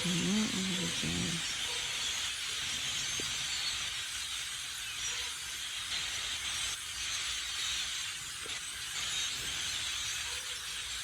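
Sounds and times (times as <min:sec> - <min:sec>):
flock of blackbirds chirping: 0:00.0 - 0:11.0.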